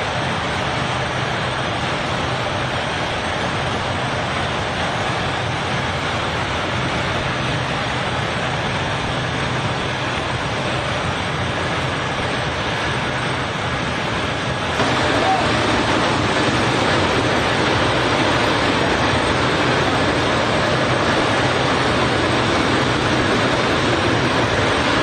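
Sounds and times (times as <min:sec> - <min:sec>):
engine roar: 0:00.0 - 0:25.0
low hum: 0:00.0 - 0:25.0.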